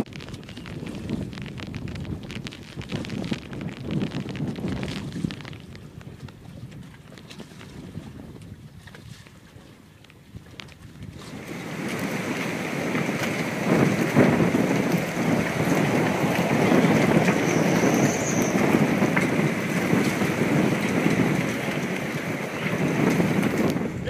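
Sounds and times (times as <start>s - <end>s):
storm wind and rain rushing: 0.0s - 24.0s.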